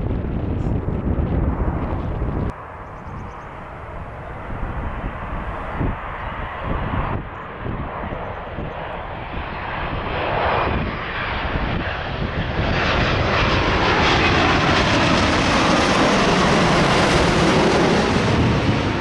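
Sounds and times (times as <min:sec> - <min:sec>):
airliner jet engines overhead: 0:00.0 - 0:19.0.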